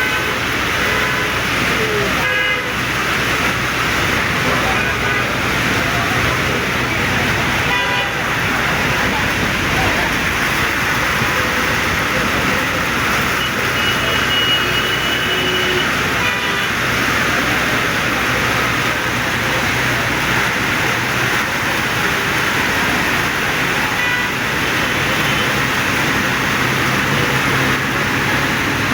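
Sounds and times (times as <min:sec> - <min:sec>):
heavy rain pouring: 0:00.0 - 0:28.9.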